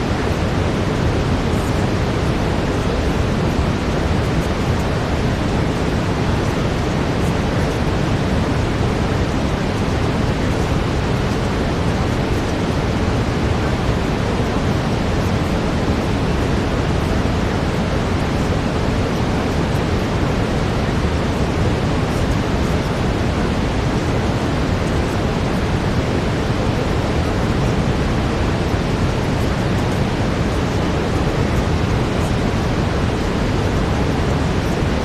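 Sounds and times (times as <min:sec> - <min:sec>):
brown noise hiss: 0:00.0 - 0:35.0.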